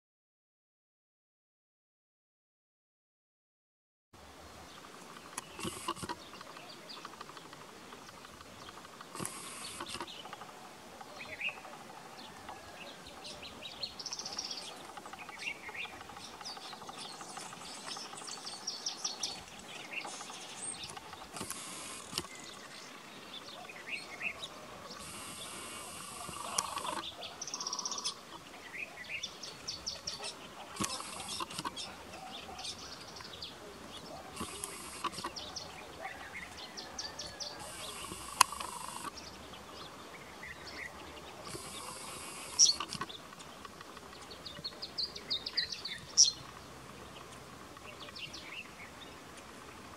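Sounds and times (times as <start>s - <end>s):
wild birds chirping and trilling: 4.2s - 49.9s.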